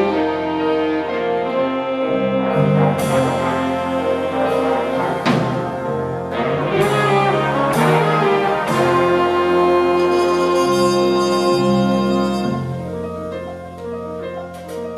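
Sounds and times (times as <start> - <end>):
jazz big band playing: 0.0 - 14.9.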